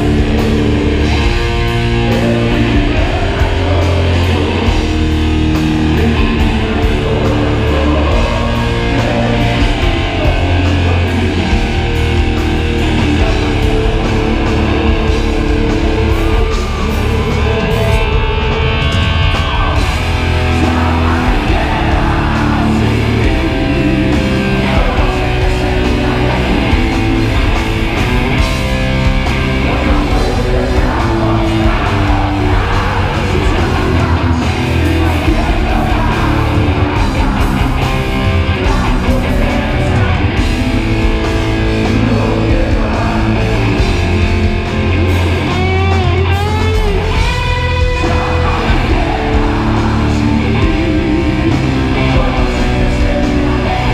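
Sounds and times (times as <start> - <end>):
heavy metal band playing live: 0.0 - 53.9
person singing: 0.0 - 53.9.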